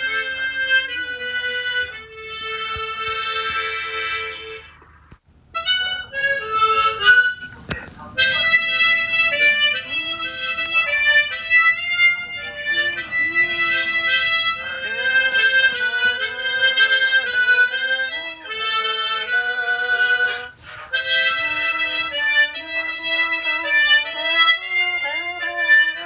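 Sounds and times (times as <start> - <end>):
harmonica playing chords: 0.0 - 26.0.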